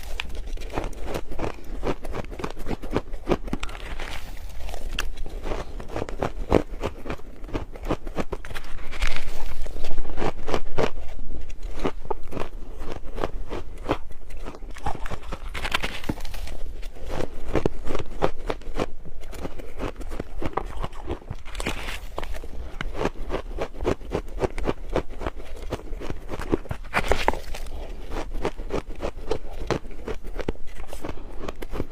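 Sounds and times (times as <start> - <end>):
ice crunching while chewed: 0.0 - 31.9.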